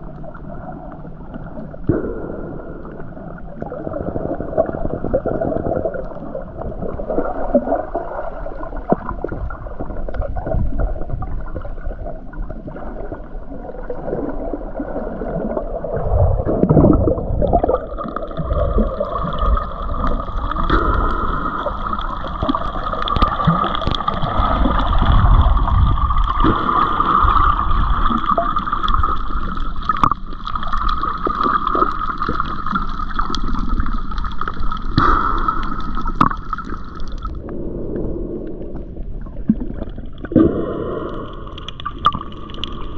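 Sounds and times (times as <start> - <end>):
muffled underwater churning rumble: 0.0 - 42.9.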